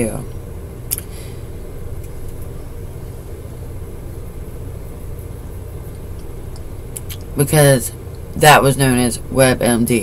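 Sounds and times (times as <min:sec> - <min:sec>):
low rumble and hum: 0:00.0 - 0:10.0.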